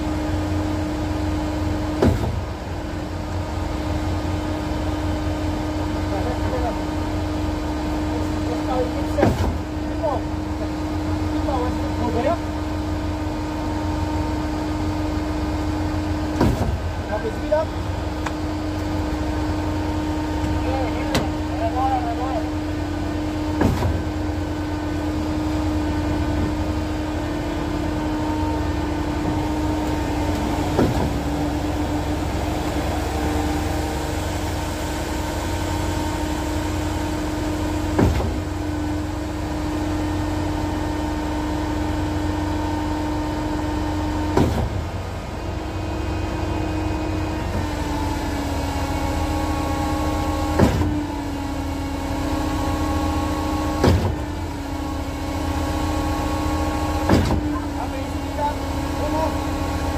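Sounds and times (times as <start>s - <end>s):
concrete pump and mixer droning: 0.0s - 59.9s.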